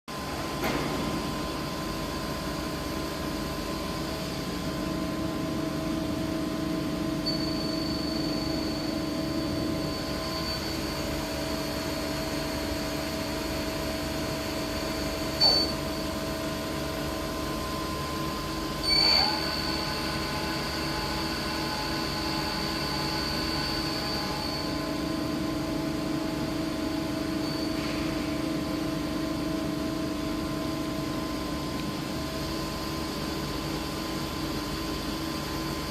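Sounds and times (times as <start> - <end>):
high machine whine: 0.1 - 35.9.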